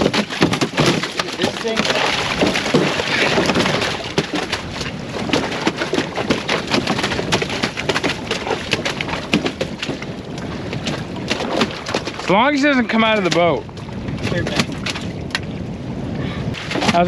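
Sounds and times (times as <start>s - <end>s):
fish slapping on deck: 0.0s - 12.3s, 12.9s - 13.6s, 14.2s - 15.5s, 16.6s - 17.0s
wind and water noise: 0.0s - 17.0s.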